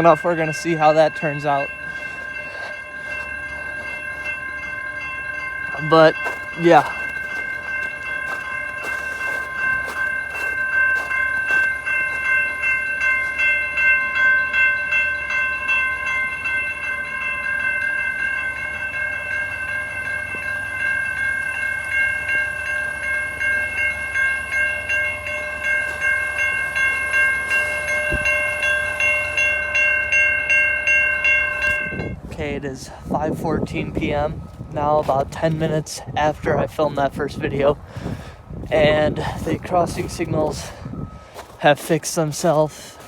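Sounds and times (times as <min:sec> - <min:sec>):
railroad crossing bell ringing: 0:00.0 - 0:43.0.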